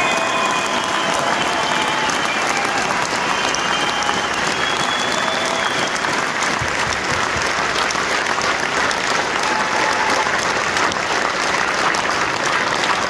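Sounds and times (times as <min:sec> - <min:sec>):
large audience applauding: 0:00.0 - 0:13.0.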